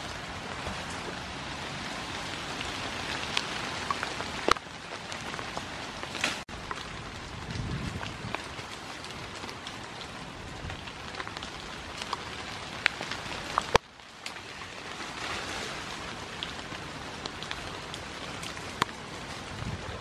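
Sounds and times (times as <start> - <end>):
rain hissing: 0.0 - 20.0
raindrop ticks: 0.0 - 20.0.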